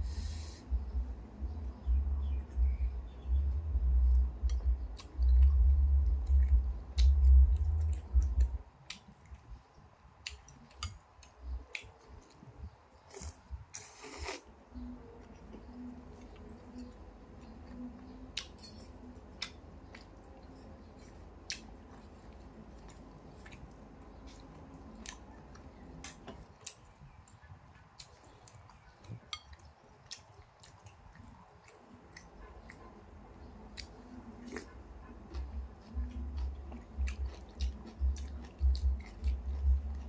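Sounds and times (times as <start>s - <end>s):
faint low hum: 0.0s - 40.0s
soft chewing: 0.0s - 40.0s.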